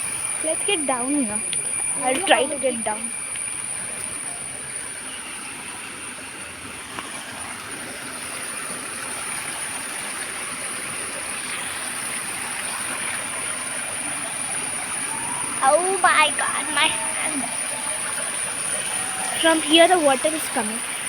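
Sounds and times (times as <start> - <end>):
stream water flowing: 0.0 - 21.0
thin high-pitched whine: 0.0 - 21.0.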